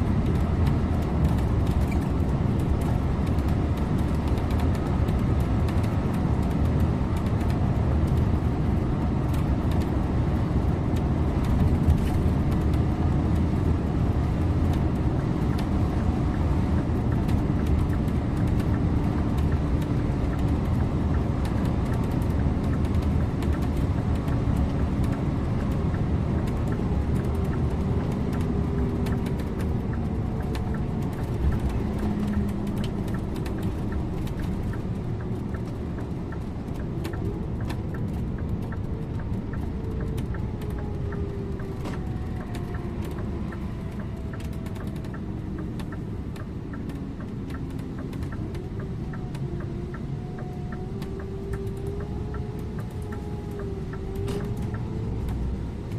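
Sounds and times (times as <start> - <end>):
bus engine and tyre noise: 0.0 - 55.9.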